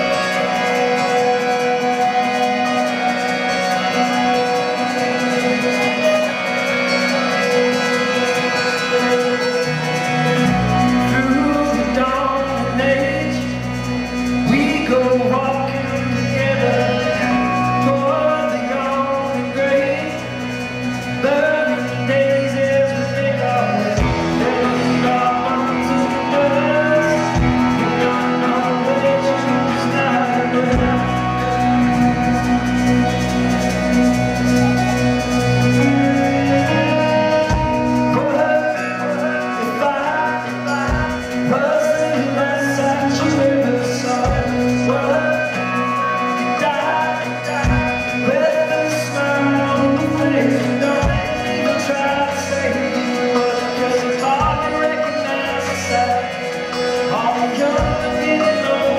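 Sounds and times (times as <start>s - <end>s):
bass guitar: 0.0s - 58.9s
electric guitars: 0.0s - 58.9s
man singing: 0.0s - 58.9s.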